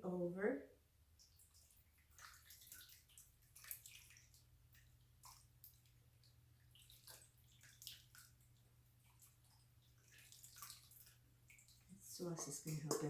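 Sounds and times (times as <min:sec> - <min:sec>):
sauce splashing and dripping: 0:01.1 - 0:13.0.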